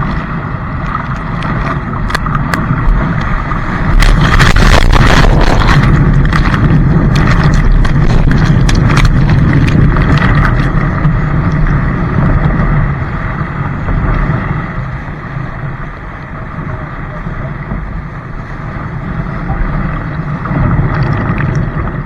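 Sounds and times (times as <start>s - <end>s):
water and wind rumbling: 0.0s - 22.0s
water splashes: 0.0s - 22.0s.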